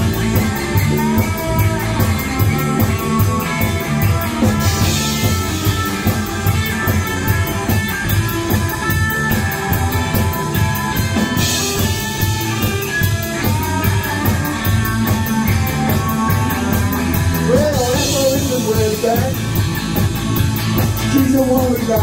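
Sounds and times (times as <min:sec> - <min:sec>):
drum kit with cymbals: 0:00.0 - 0:22.0
electric guitar: 0:00.0 - 0:22.0.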